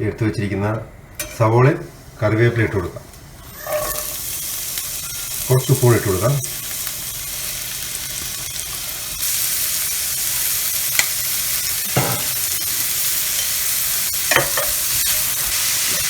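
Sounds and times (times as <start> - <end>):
onions sizzling in hot oil: 1.2 - 16.0.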